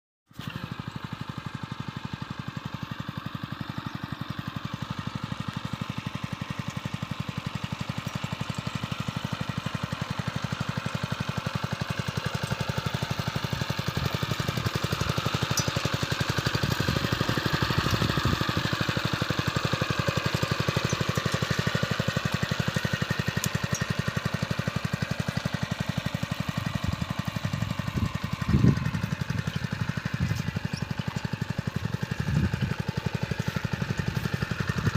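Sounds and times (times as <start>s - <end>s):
small engine chugging: 0.3s - 34.9s.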